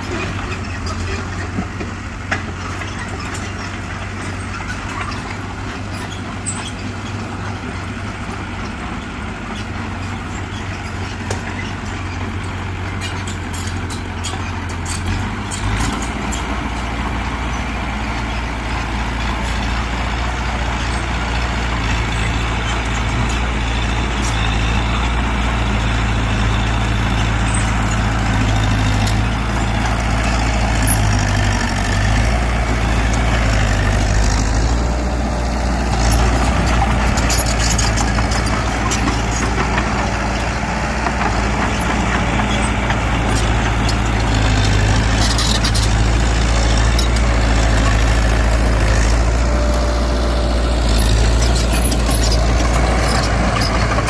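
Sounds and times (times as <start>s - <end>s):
diesel machinery running: 0.0s - 54.0s.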